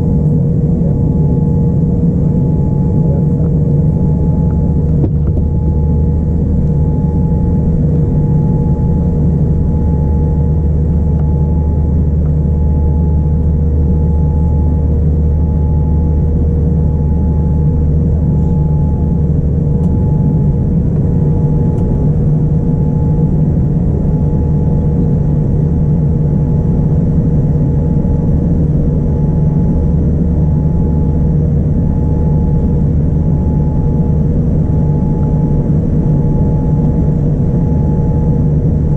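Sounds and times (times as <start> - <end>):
jet engine cabin rumble: 0.0 - 38.9
two-tone hum: 0.0 - 38.9.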